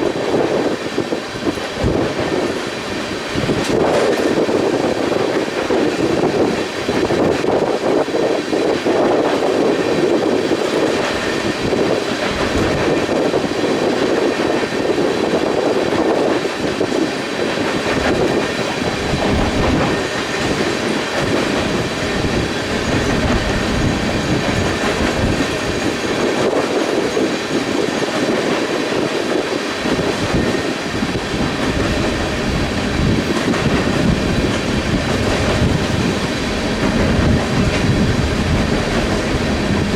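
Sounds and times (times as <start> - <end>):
freight train rolling on rails: 0.0 - 39.9
wind gusting on microphone: 0.0 - 39.9.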